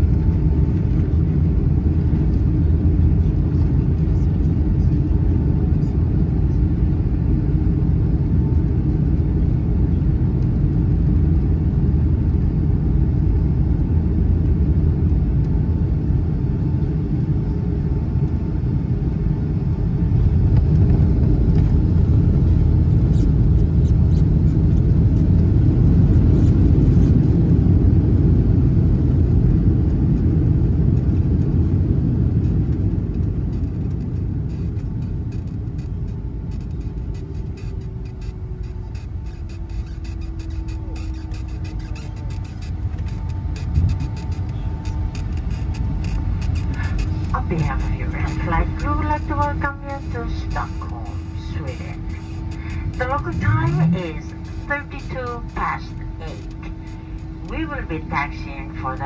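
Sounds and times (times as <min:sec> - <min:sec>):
jet engine and airflow rumble: 0:00.0 - 0:59.0.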